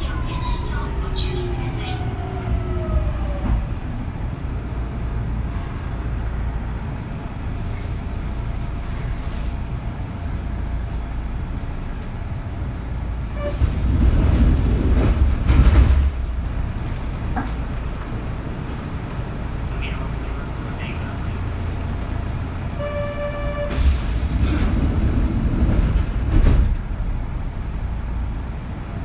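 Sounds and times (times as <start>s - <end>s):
train interior rumble: 0.0s - 29.0s.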